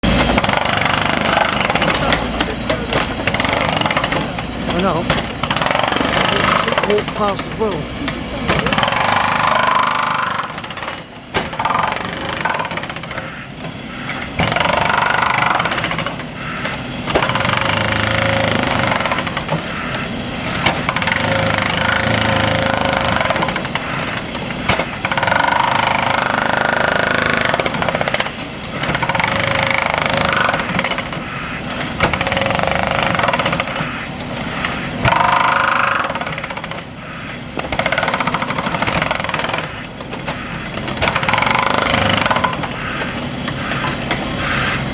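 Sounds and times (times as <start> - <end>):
pneumatic breaker hammering tarmac: 0.0 - 44.9.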